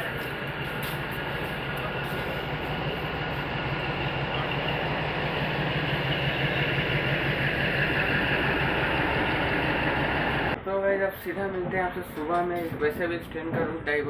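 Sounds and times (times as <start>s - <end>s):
train coach rumbling on rails: 0.0s - 14.0s.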